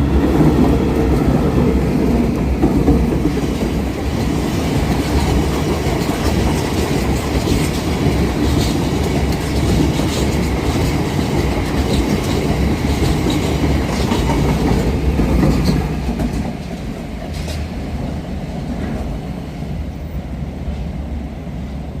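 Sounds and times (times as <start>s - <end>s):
train wheels clattering on rails: 0.0s - 21.1s.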